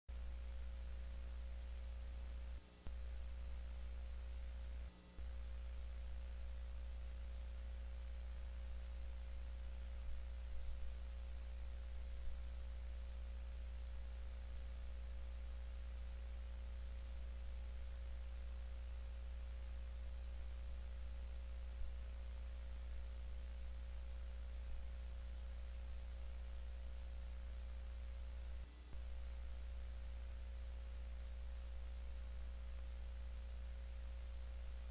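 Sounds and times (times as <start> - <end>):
faint steady tone: 0.1 - 34.9
low electrical hum: 0.1 - 34.9.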